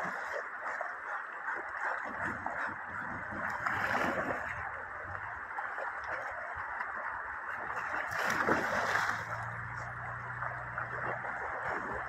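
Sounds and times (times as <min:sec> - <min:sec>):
river water running over stones: 0:00.0 - 0:02.2, 0:02.8 - 0:12.0
dog splashing through water: 0:00.0 - 0:12.0.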